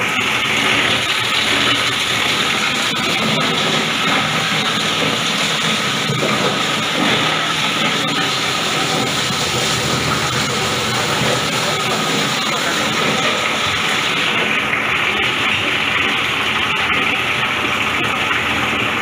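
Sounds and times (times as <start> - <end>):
grinding machine running: 0.0 - 19.0.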